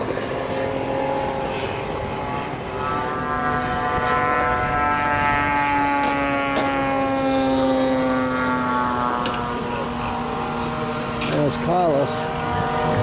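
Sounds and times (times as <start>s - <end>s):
model airplane engine droning: 0.0s - 13.0s.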